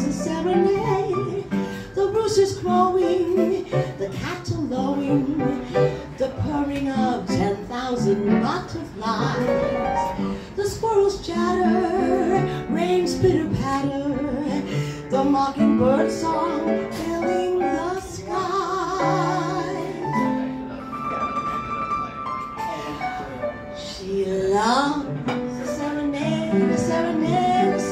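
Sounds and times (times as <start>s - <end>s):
woman singing into a microphone: 0.0s - 20.4s, 23.8s - 27.9s
piano accompaniment: 0.0s - 27.9s.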